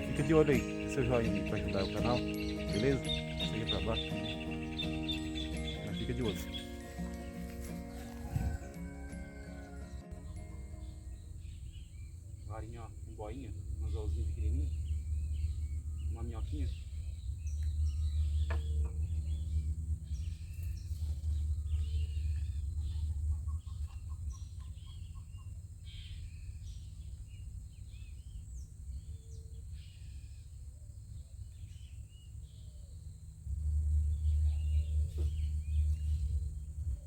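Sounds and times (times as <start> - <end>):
birds chirping: 0.0 - 37.0
low rumble: 0.0 - 37.0.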